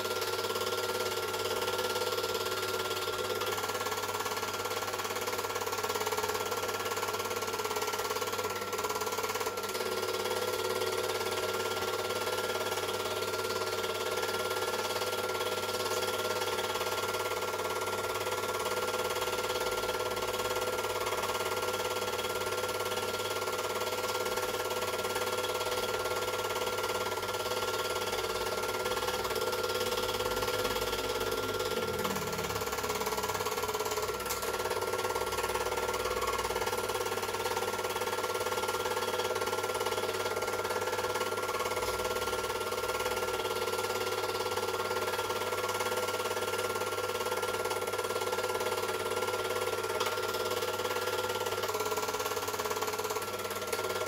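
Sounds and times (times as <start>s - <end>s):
film projector running: 0.0s - 54.0s.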